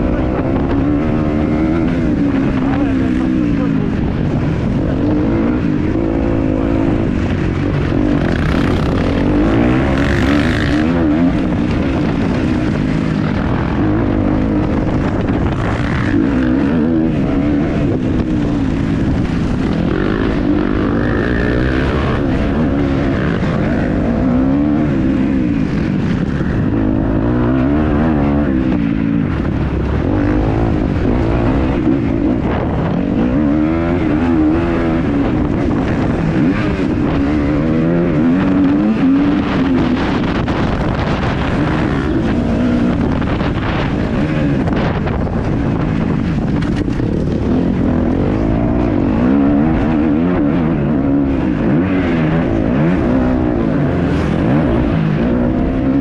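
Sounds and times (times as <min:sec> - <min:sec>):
motocross engine revving: 0:00.0 - 0:56.0
wind noise: 0:00.0 - 0:56.0.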